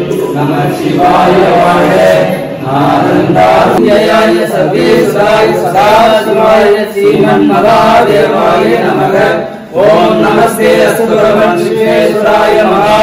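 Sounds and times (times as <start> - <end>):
men chanting mantras: 0.0 - 13.0.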